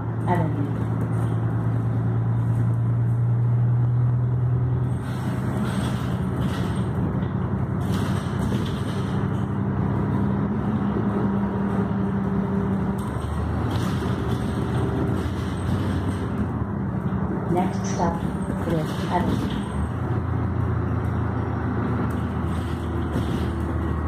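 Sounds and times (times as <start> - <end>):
bus engine running inside cabin: 0.0 - 24.0.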